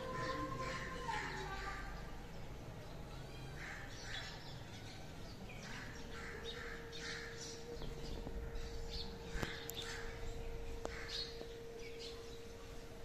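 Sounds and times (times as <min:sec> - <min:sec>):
birds chirping: 0:00.0 - 0:13.0
faint steady hum: 0:00.0 - 0:13.0.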